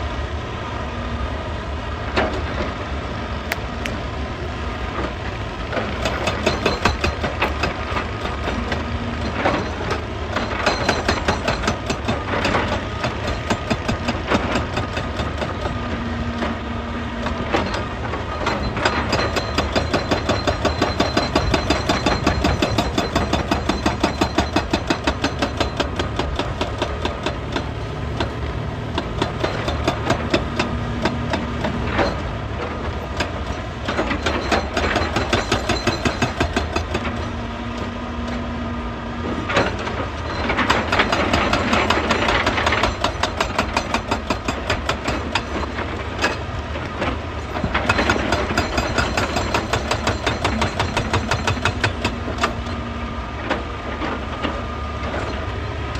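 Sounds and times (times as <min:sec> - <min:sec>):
diesel engine running: 0:00.0 - 0:55.9
hydraulic breaker hammering rock: 0:05.0 - 0:16.6, 0:17.2 - 0:37.3, 0:39.4 - 0:52.8.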